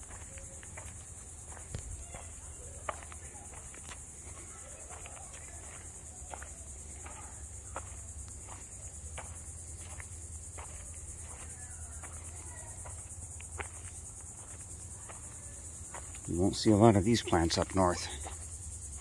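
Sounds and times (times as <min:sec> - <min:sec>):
crickets chirping: 0:00.0 - 0:19.0
footsteps on sandy path: 0:00.0 - 0:19.0.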